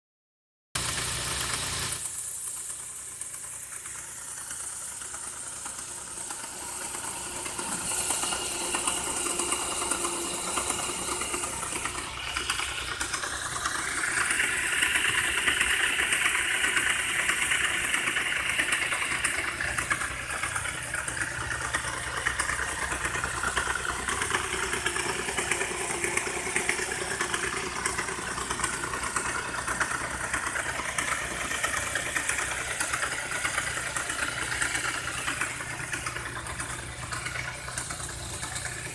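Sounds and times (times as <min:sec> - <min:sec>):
engine with clattering knock: 0:00.8 - 0:38.9.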